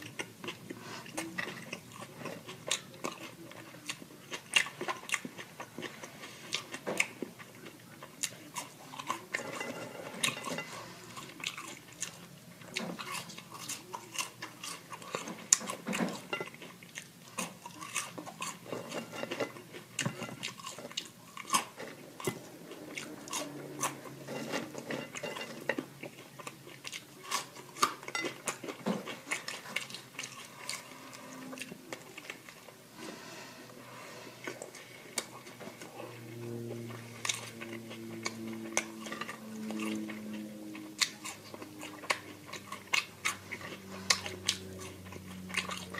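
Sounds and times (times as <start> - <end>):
person chewing crunchy food: 0.0 - 33.0, 34.4 - 45.9.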